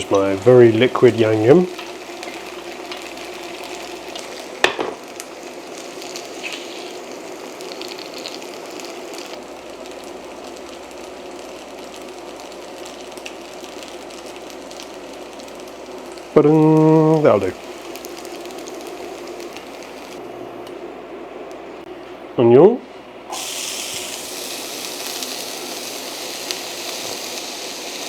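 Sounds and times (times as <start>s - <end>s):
food sizzling in a pan: 0.0s - 20.3s, 23.3s - 28.0s.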